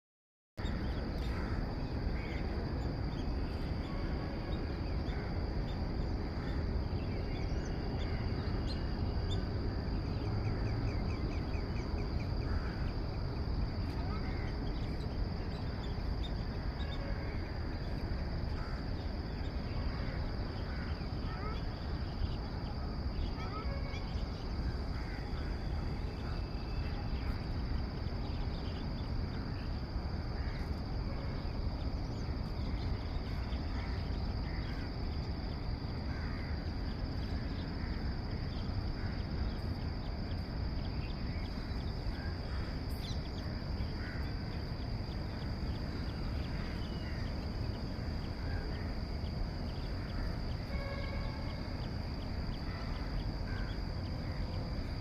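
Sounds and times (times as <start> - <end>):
bird calls: 0.6 - 55.0
high-pitched insect drone: 0.6 - 55.0.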